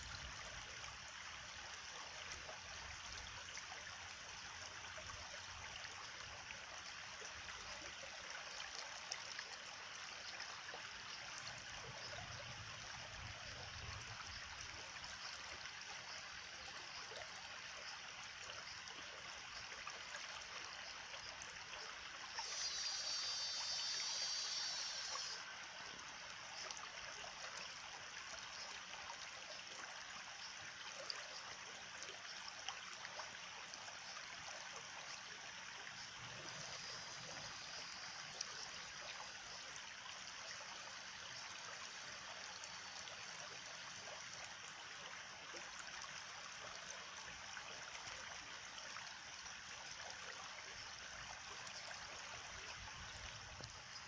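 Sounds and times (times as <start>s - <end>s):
small stream trickling: 0.0s - 54.0s.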